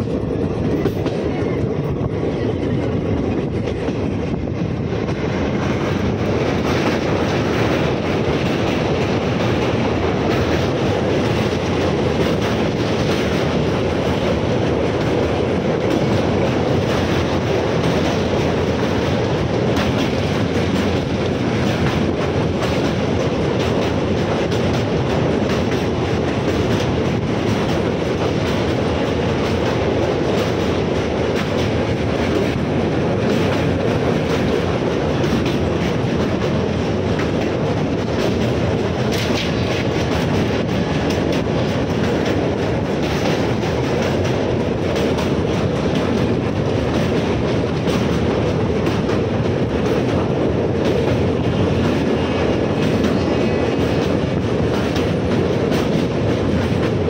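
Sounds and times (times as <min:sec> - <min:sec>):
clickety-clack of rail joints: 0:00.0 - 0:57.0
train wheels rumbling on rails: 0:00.0 - 0:57.0.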